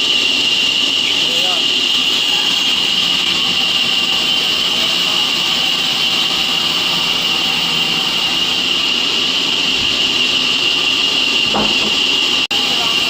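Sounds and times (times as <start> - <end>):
machine rushing with high whine: 0.0 - 13.0.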